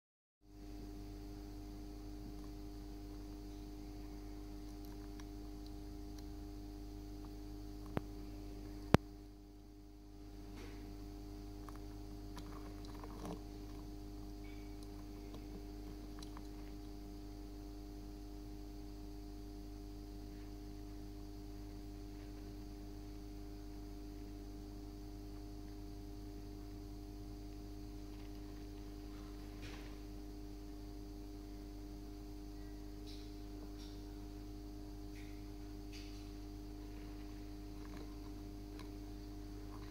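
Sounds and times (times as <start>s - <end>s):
steady electrical hum: 0.4s - 39.9s.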